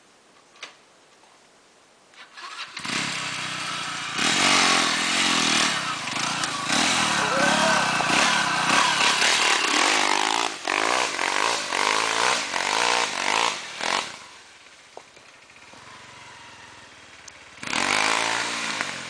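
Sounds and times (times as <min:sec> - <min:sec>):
motorcycle engines revving: 0:02.4 - 0:19.0.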